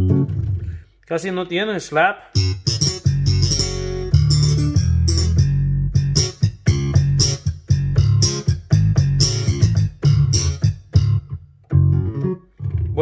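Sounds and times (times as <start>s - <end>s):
low plucked bass notes: 0.0s - 0.8s, 2.4s - 13.0s.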